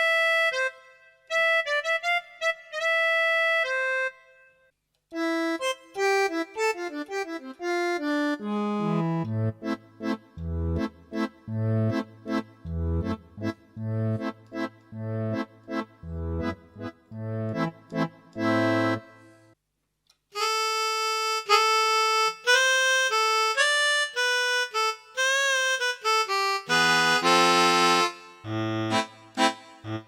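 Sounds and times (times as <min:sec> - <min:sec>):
keyboard playing accordion tones: 0:00.0 - 0:19.6, 0:20.4 - 0:30.0.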